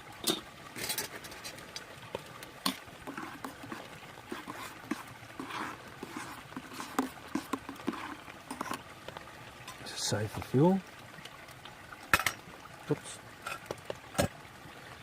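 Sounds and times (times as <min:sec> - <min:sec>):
babbling brook: 0:00.0 - 0:15.0.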